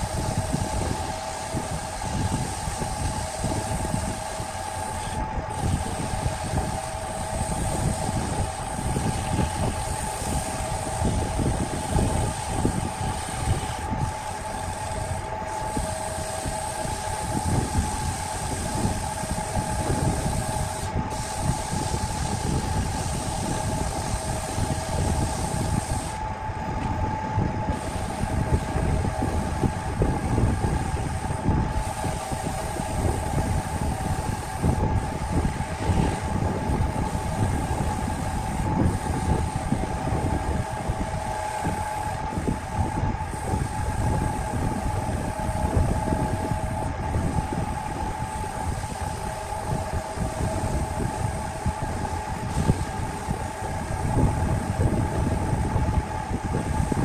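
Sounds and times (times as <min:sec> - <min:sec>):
sandpaper on spinning wood: 0:00.0 - 0:26.2, 0:27.7 - 0:57.0
wood lathe motor whine: 0:00.0 - 0:26.5, 0:27.1 - 0:57.0.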